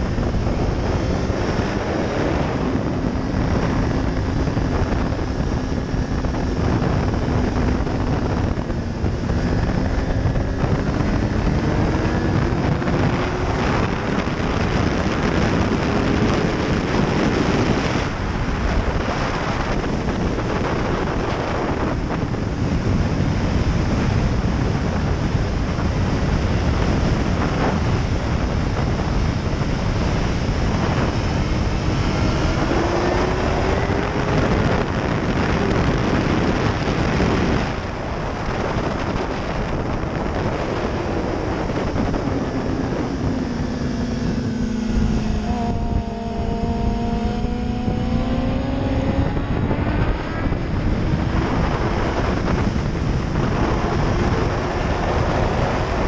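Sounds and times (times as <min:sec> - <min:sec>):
motorcycle engine accelerating: 0:00.0 - 0:56.0
wind rushing over microphone: 0:00.0 - 0:56.0.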